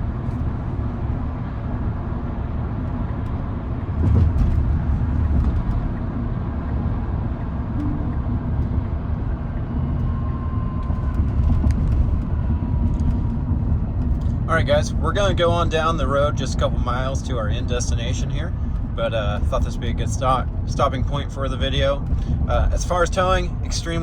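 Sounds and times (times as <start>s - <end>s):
road and tyre rumble: 0.0s - 24.0s
wind noise inside vehicle: 0.0s - 24.0s.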